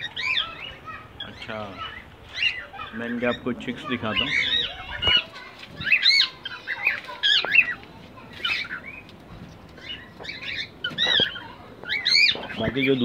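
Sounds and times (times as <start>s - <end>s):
cockatiels chirping: 0.0s - 13.0s.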